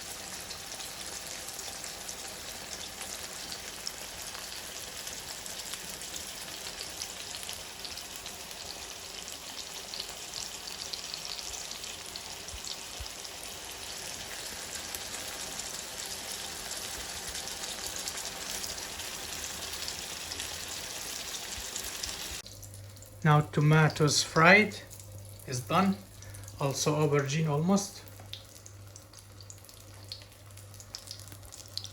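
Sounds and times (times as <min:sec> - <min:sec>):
vegetables sizzling in hot oil: 0:00.0 - 0:23.2, 0:28.2 - 0:31.9.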